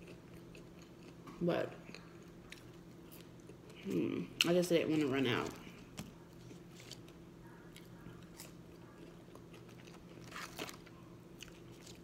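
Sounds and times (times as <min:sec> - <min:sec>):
person chewing fries: 0:00.0 - 0:04.0, 0:05.7 - 0:12.0.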